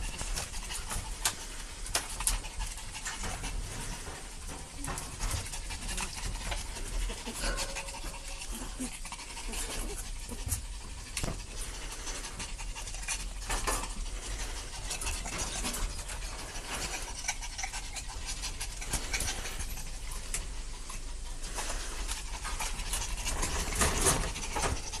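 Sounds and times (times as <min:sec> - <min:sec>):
puppies panting: 0:00.0 - 0:25.0
puppies scuffling on floor: 0:00.0 - 0:25.0.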